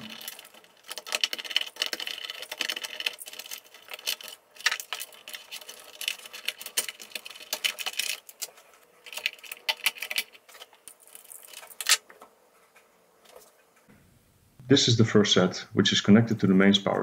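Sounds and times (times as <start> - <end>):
clicks and rattles of wires: 0.0 - 13.9.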